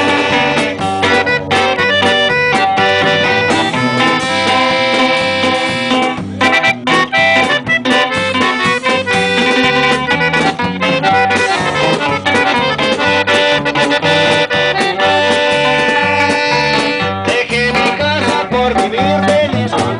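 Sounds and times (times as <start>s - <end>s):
bass: 0.0s - 19.9s
button accordion: 0.0s - 19.9s
drum kit: 0.0s - 19.9s
strummed guitars: 0.0s - 19.9s.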